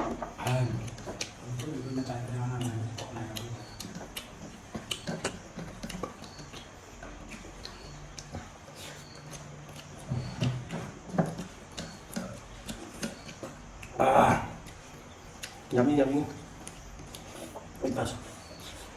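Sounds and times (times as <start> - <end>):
chewing with wet mouth smacks: 0.2 - 18.9.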